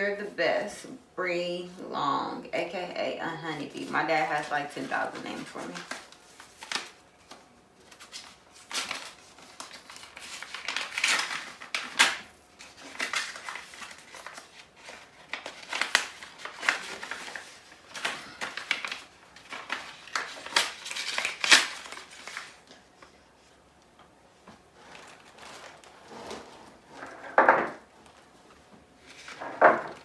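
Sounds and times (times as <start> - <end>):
paper crinkling and rustling: 3.8 - 23.5, 24.4 - 30.0.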